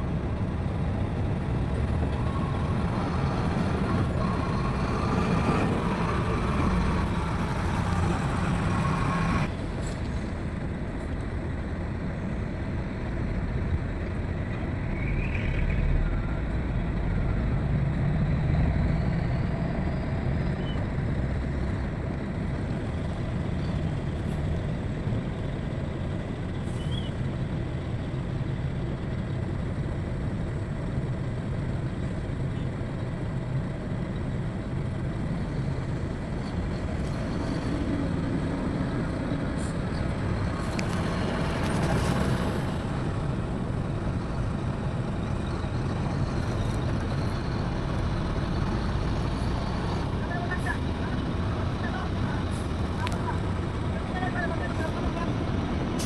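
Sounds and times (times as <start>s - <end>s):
diesel machinery rumbling: 0.0s - 56.0s.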